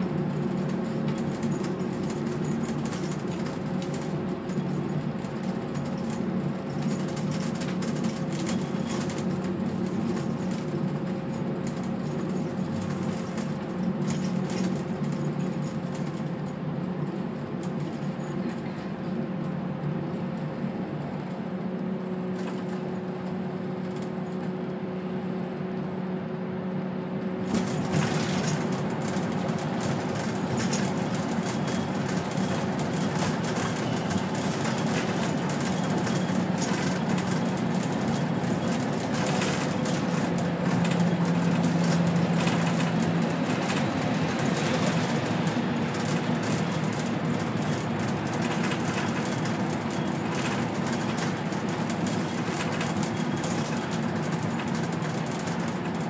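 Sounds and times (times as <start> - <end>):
bus engine humming: 0.0 - 56.0
road and tyre noise: 0.0 - 56.0.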